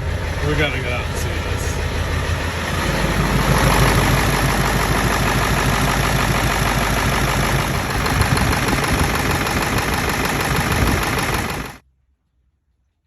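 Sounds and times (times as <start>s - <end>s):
diesel engine idling with clatter: 0.0s - 11.8s.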